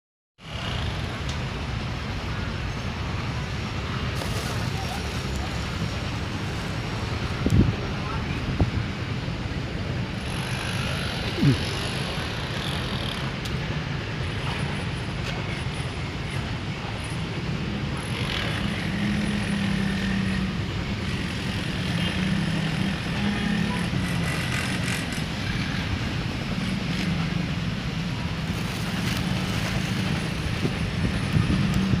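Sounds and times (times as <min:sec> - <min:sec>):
vehicle engines rumbling: 0:00.4 - 0:32.0.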